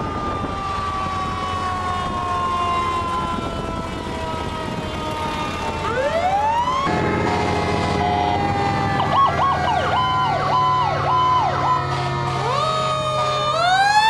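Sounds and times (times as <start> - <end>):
fire truck sirens: 0.0 - 14.0.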